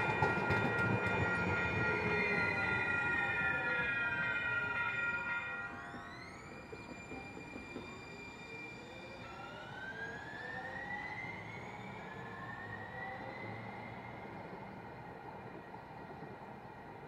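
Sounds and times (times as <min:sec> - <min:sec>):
city background noise: 0:00.0 - 0:17.0.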